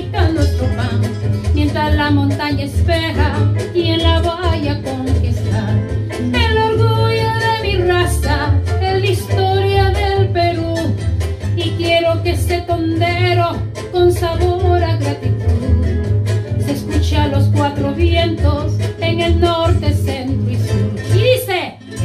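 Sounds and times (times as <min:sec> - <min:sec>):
recorded instrumental accompaniment: 0:00.0 - 0:22.0
woman singing into a microphone: 0:00.0 - 0:22.0.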